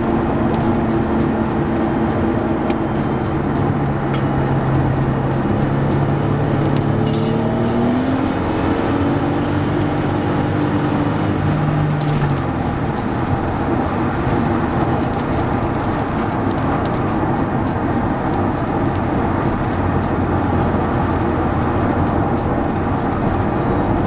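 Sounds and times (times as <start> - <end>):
car engine accelerating: 0.0 - 24.0
road tyre and wind noise: 0.0 - 24.0.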